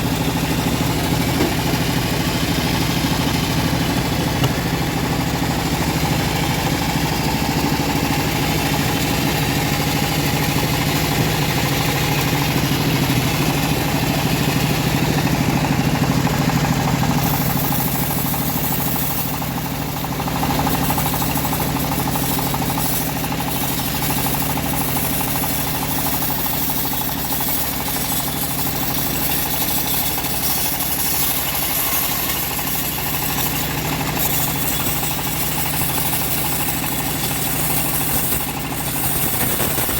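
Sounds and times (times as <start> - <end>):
bandsaw sawmill sawing log: 0.0 - 39.9.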